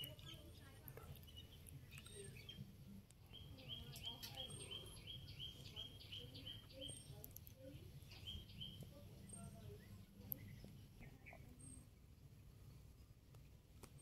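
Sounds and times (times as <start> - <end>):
faint low outdoor rumble: 0.0 - 14.0
small bird chirping: 0.0 - 14.0.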